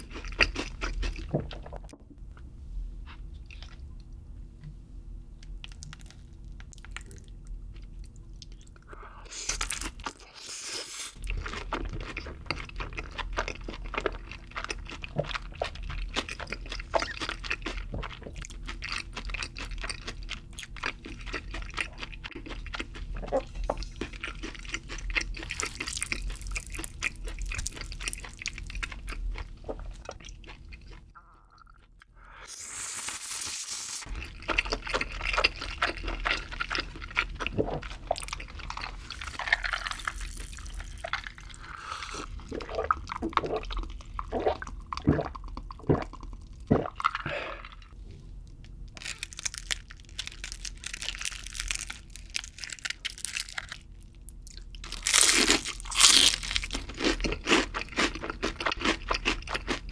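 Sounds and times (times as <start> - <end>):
chewing crunchy fried chicken: 0.0 - 1.9, 5.4 - 48.0, 48.7 - 59.9.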